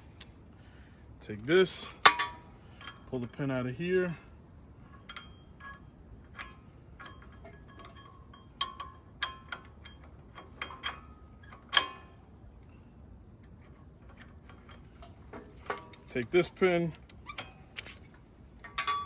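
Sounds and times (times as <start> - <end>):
metal pins clinking: 1.6 - 4.2, 4.8 - 19.0.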